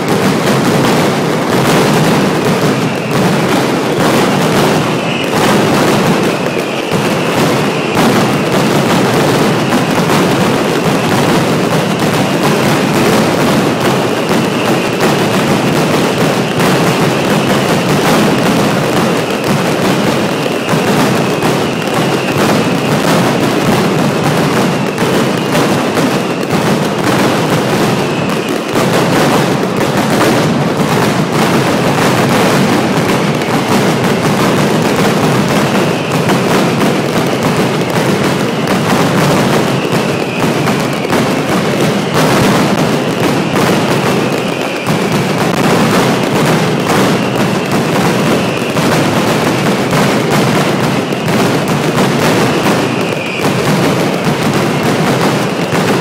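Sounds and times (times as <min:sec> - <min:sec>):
firecrackers banging: 0:00.0 - 0:56.0.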